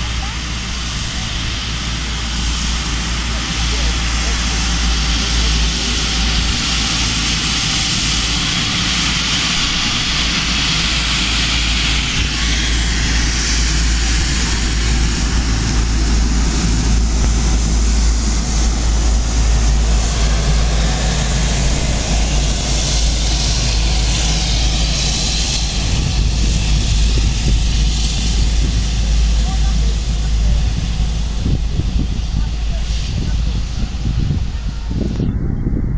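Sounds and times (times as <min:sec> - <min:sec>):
airliner engines passing: 0:00.0 - 0:35.9.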